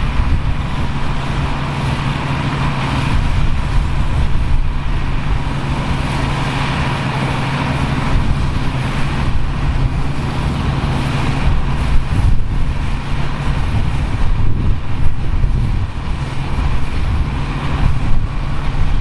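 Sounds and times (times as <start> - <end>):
farm machinery engine running: 0.0 - 19.0.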